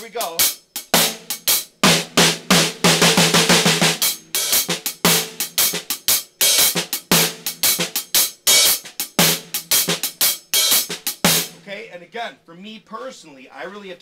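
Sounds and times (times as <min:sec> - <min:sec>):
hi-hat pattern: 0:00.0 - 0:11.9.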